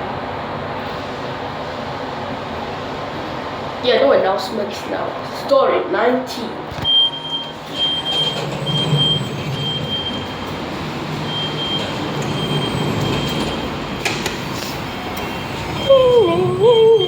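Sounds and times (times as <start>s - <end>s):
lift car rumble and air rush: 0.0s - 17.0s.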